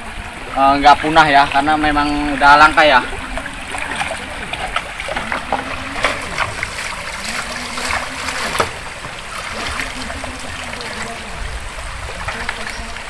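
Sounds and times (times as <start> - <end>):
river water babbling: 0.0 - 13.0
small splashes: 0.0 - 13.0.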